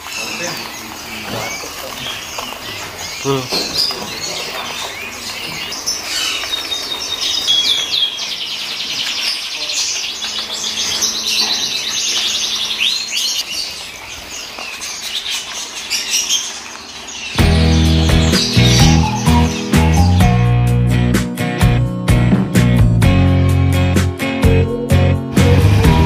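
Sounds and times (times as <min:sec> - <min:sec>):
rapid bird trill: 0:00.0 - 0:20.9
canaries chirping and singing: 0:00.0 - 0:26.0.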